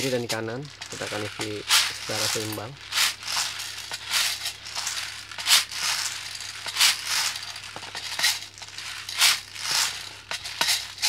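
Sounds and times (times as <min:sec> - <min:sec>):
plastic bbs rattling into magazine: 0:00.0 - 0:11.0.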